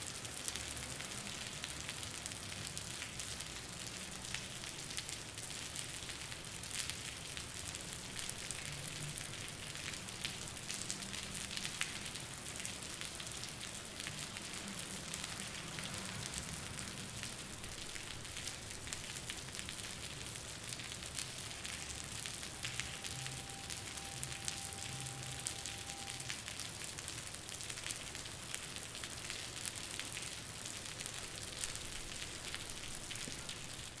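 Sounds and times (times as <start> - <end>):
rain splattering on concrete: 0.0 - 34.0.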